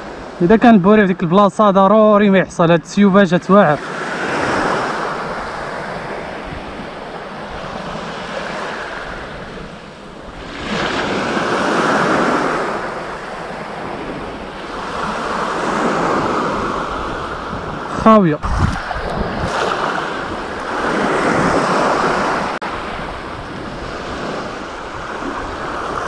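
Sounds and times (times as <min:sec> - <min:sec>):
sea waves breaking on shore: 0:00.0 - 0:26.0
wind buffeting microphone: 0:03.8 - 0:26.0.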